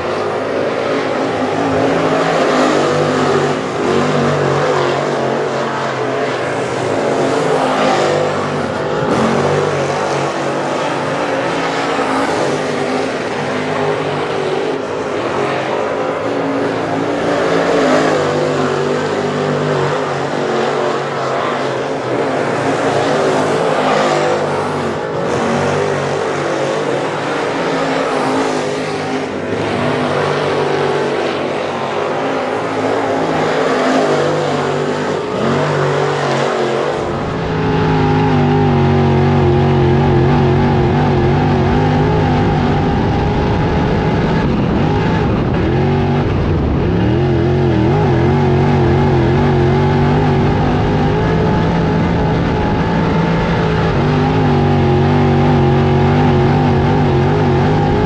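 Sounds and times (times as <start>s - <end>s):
race car engine lapping: 0.0s - 58.0s.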